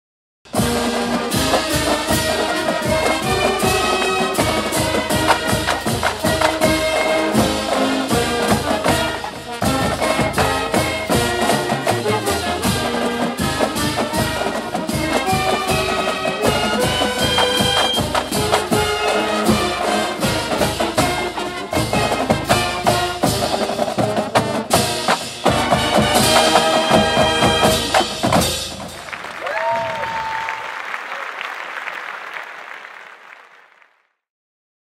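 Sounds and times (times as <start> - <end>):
brass chords and melody: 0.5 - 29.0
drumline beat: 0.5 - 30.5.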